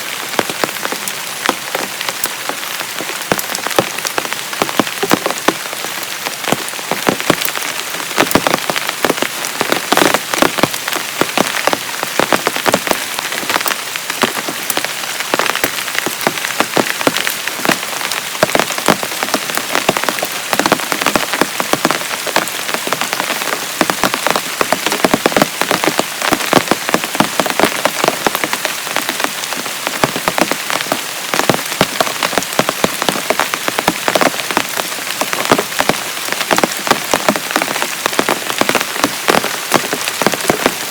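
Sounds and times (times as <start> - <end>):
heavy rain: 0.0 - 40.9
raindrops striking a surface: 0.0 - 40.9.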